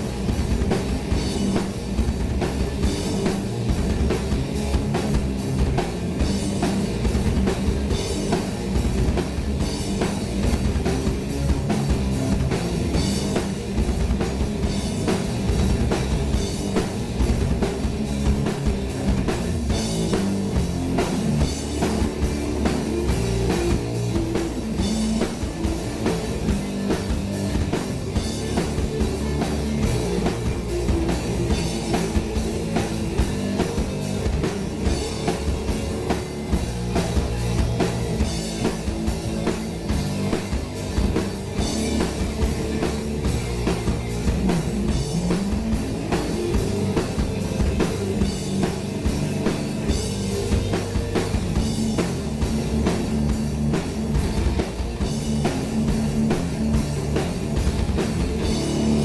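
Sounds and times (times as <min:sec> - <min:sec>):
fast dense drumming: 0:00.0 - 0:59.0
heavy metal band playing live: 0:00.0 - 0:59.0.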